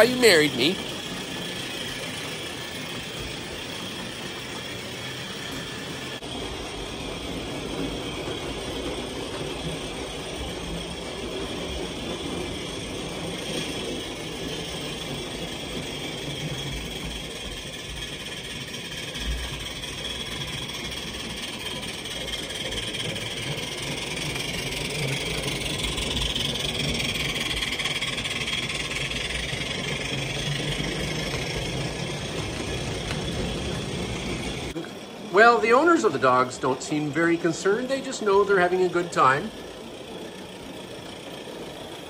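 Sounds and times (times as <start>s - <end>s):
model train wheels rumbling on rails: 0.0s - 42.0s.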